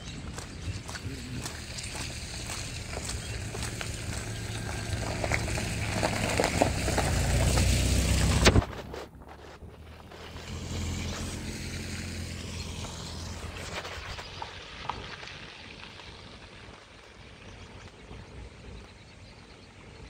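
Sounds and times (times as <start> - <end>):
car engine hum: 0.0 - 16.8
tyres rushing on wet road: 0.1 - 18.0.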